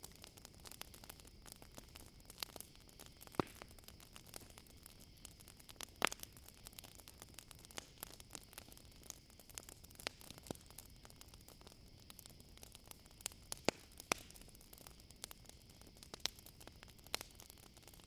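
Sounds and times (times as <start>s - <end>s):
wood fire crackling: 0.0s - 18.0s
crickets trilling: 0.1s - 18.0s.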